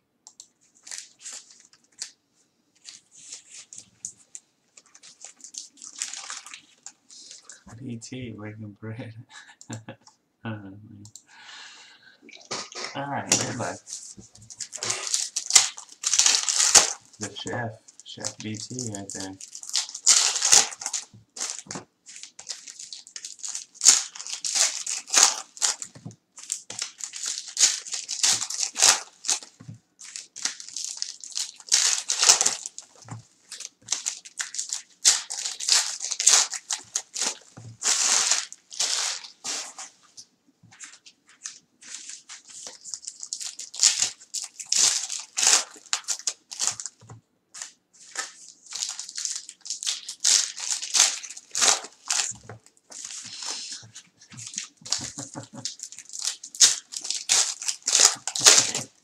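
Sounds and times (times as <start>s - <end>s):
foil wrappers crinkling and tearing: 0.7s - 2.2s, 2.8s - 7.6s, 12.6s - 39.9s, 40.7s - 47.0s, 47.6s - 59.0s.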